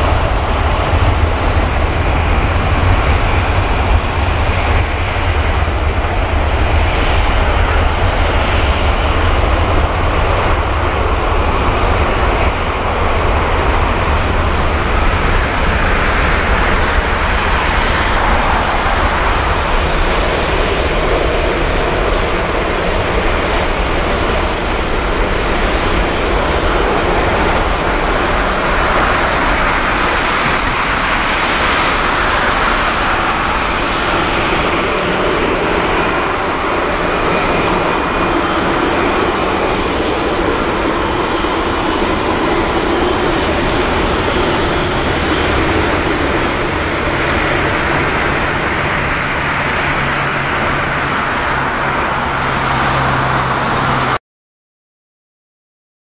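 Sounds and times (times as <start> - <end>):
jet engines roaring with fan whine: 0.0 - 54.2.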